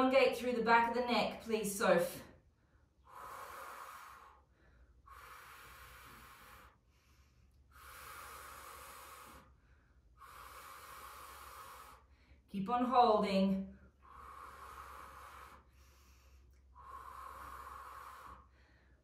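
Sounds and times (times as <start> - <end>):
person breathing hard: 2.4 - 12.5, 13.7 - 19.0.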